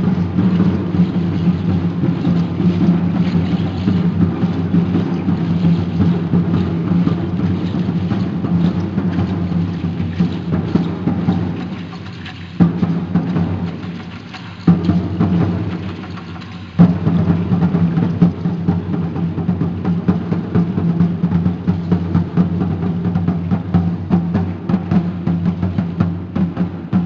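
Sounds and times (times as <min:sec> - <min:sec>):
large drums beating: 0:00.0 - 0:27.0
loud single drum strokes: 0:00.0 - 0:27.0.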